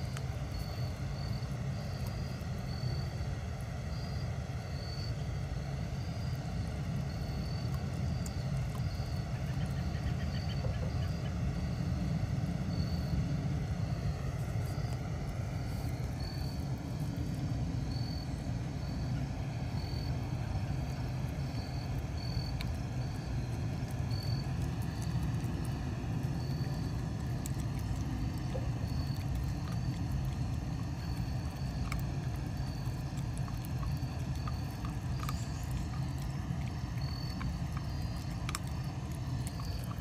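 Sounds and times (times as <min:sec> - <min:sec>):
insect chirping: 0:00.0 - 0:40.0
steady low rumble: 0:00.0 - 0:40.0.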